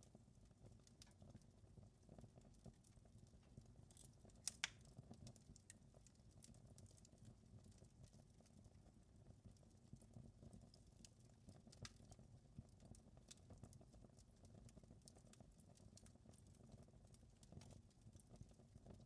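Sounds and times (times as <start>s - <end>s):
faint wood fire crackling: 0.0s - 19.0s.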